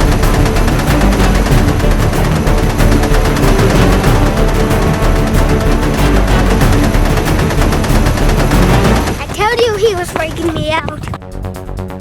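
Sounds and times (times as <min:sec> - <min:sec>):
tense music with fast beat: 0:00.0 - 0:12.0.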